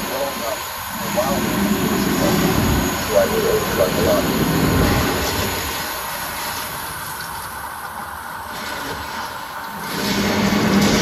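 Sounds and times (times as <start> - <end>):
tram rushing noise: 0.0 - 11.0.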